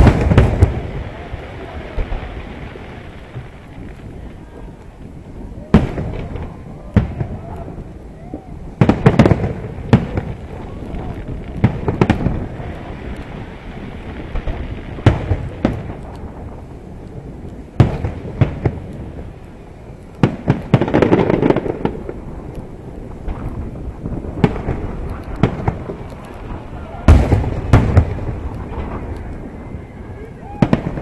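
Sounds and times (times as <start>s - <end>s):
fireworks booming: 0.0s - 31.0s
fireworks crackle: 0.0s - 31.0s.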